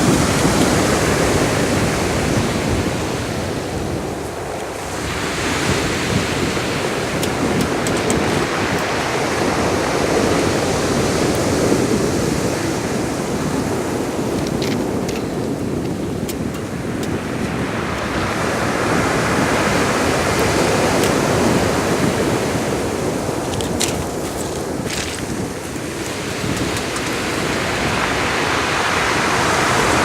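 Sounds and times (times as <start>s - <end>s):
sea surf washing ashore: 0.0s - 30.0s
wind on microphone: 0.0s - 30.0s.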